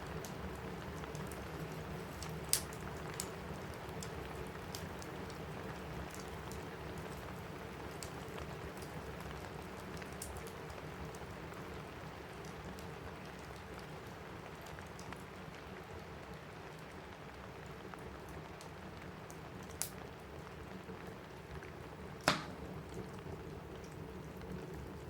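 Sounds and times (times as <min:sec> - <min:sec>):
rain pattering on a roof: 0:00.0 - 0:25.0
wood fire crackling: 0:00.0 - 0:25.0.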